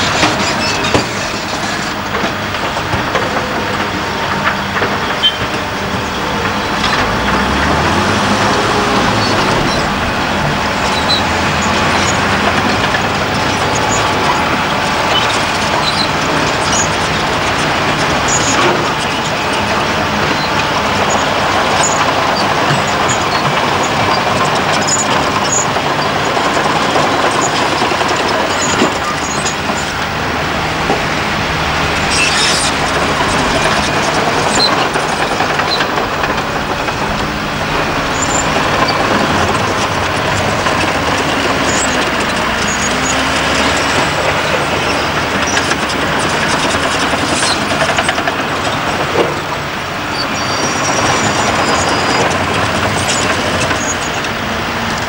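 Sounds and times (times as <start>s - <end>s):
diesel machinery engines running: 0.0s - 55.0s
machinery rattling and clanking: 0.0s - 55.0s.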